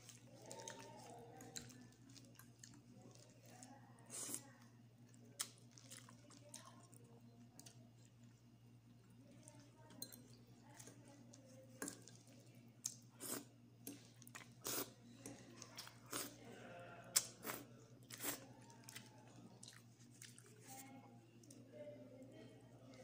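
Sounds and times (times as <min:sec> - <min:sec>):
chewing and crunching food: 0:00.0 - 0:23.0
low steady hum: 0:00.0 - 0:23.0.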